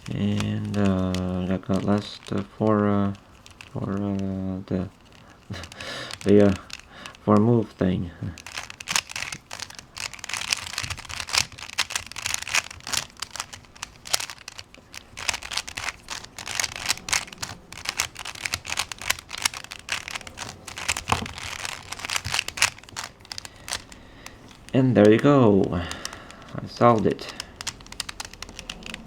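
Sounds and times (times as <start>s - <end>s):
rubik's cube clicking: 0.0s - 7.7s, 8.3s - 29.0s.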